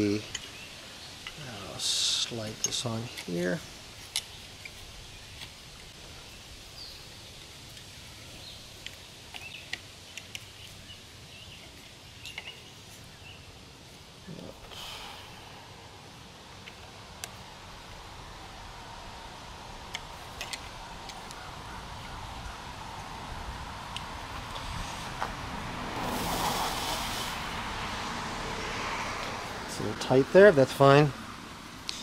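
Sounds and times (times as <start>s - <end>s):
outdoor background hum: 0.0s - 32.0s.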